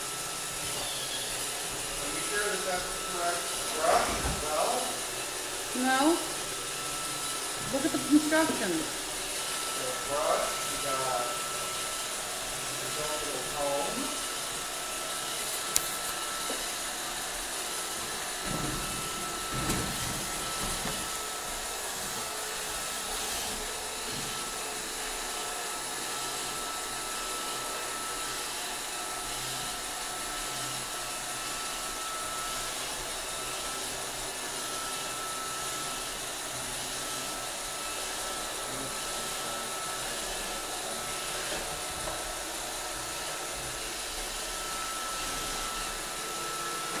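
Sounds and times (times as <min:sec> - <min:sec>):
robot vacuum whirring: 0:00.0 - 0:47.0.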